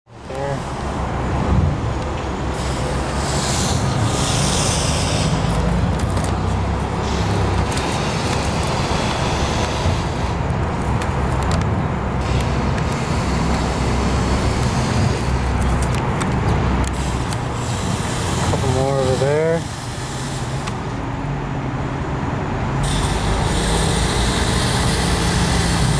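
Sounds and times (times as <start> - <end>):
road traffic rumble: 0.1 - 25.9.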